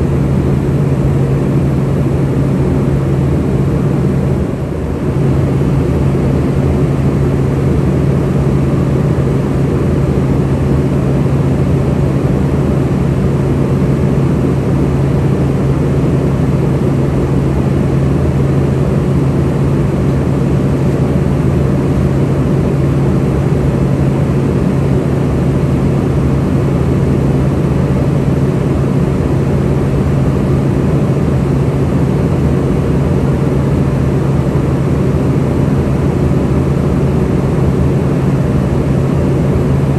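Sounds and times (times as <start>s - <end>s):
turbofan engines droning: 0.0s - 39.9s.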